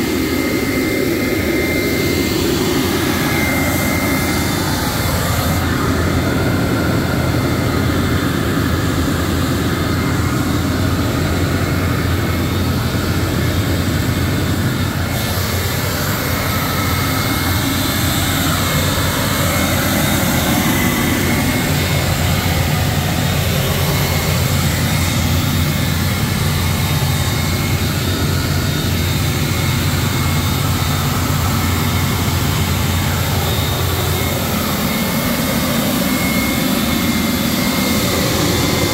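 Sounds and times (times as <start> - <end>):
faint high whine: 0.0 - 38.9
machinery running: 0.0 - 38.9.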